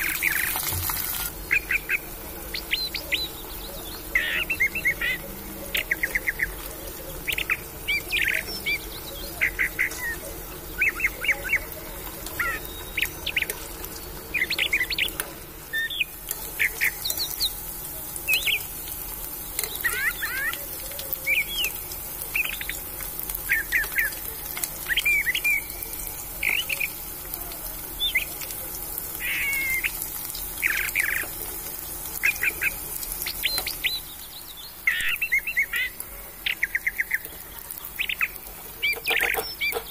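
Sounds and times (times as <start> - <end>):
faint steady hum: 0.0 - 38.8
small birds chirping: 0.0 - 39.9.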